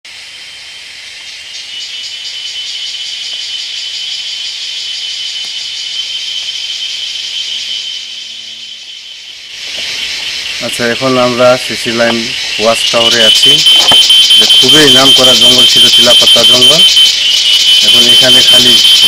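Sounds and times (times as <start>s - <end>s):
insects buzzing in chorus: 0.1s - 19.0s.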